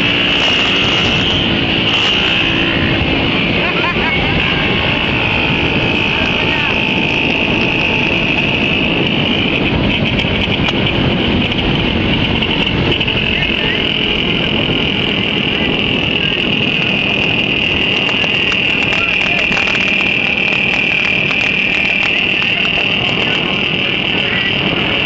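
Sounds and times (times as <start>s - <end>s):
high-pitched whine: 0.0s - 25.0s
motorcycle engines running: 0.0s - 25.0s.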